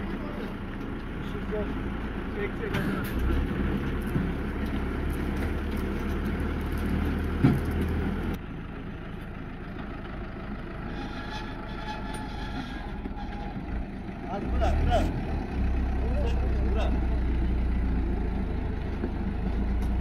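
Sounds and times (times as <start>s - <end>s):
vehicle engine low rumble: 0.0s - 20.0s.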